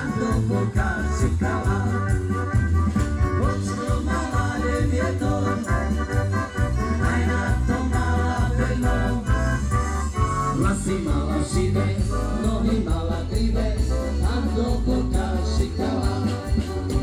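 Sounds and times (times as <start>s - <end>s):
accordion: 0.0s - 17.0s
drum kit beat: 0.0s - 17.0s
heavy low bass: 0.0s - 17.0s
live band music: 0.0s - 17.0s.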